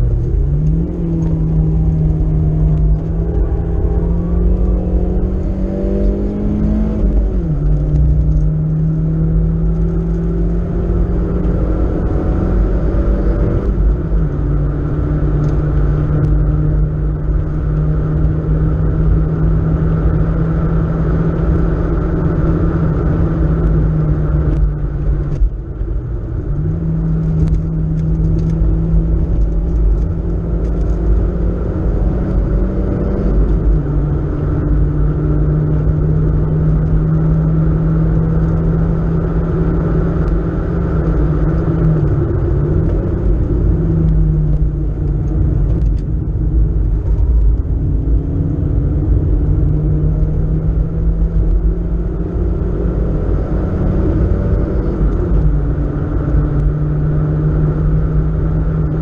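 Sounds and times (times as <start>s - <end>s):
car engine revving: 0.0s - 59.0s
road and wind rumble: 0.0s - 59.0s.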